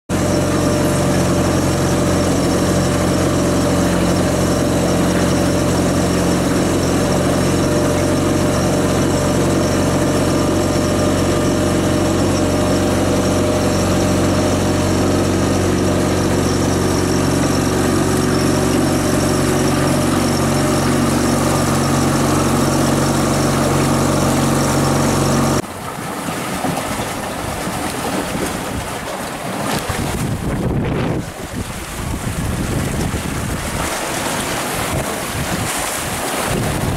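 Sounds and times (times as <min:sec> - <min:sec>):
boat engine droning: 0:00.1 - 0:36.9
water noise: 0:00.1 - 0:36.9
wind: 0:00.1 - 0:36.9.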